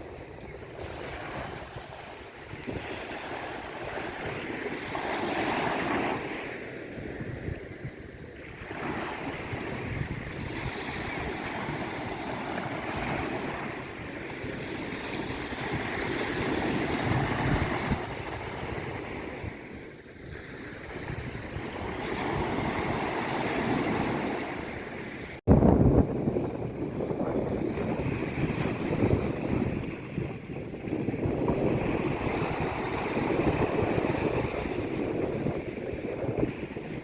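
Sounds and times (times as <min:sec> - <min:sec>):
sea waves washing onto shore: 0:00.0 - 0:37.0.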